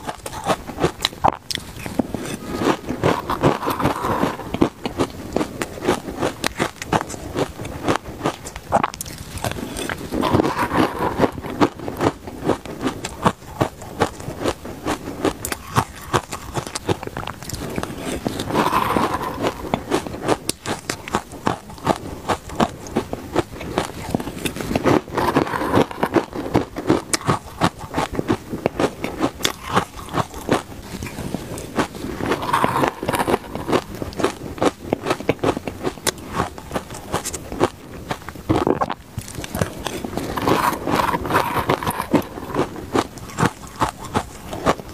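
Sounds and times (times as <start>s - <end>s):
crunching and chewing ice: 0.0s - 44.9s.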